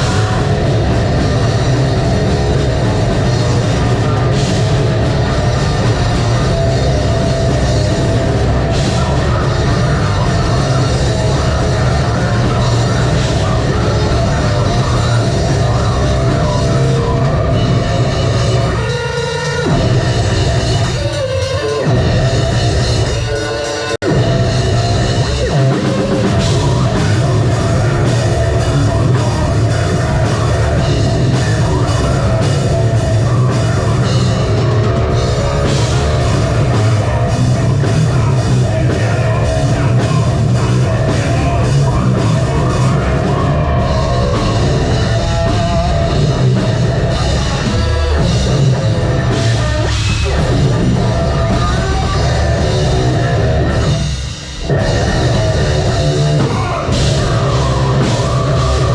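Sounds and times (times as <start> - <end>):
distorted guitars: 0.0 - 58.9
heavy bass: 0.0 - 58.9
pounding drum kit: 0.0 - 58.9.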